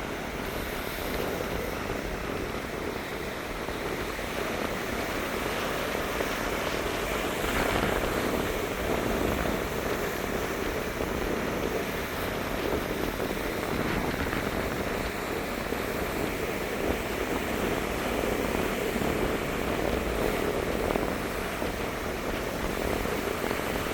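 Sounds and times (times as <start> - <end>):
sea waves washing onto beach: 0.0 - 23.9.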